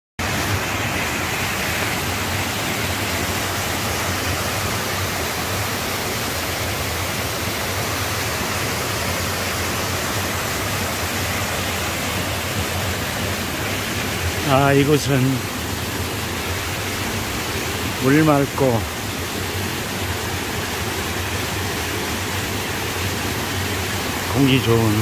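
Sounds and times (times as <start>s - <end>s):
stream rushing over rocks: 0.2s - 25.0s.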